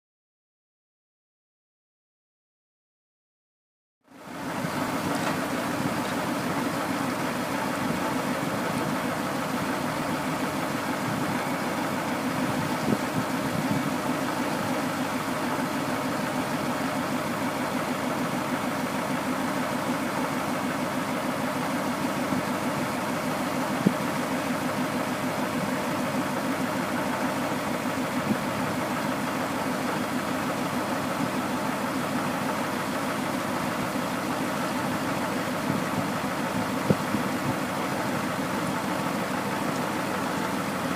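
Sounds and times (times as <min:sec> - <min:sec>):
tractor engine idling: 0:04.1 - 0:40.9.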